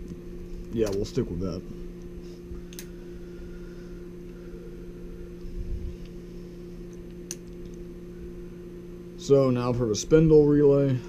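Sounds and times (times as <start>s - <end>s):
two-tone electrical hum: 0.0s - 11.0s.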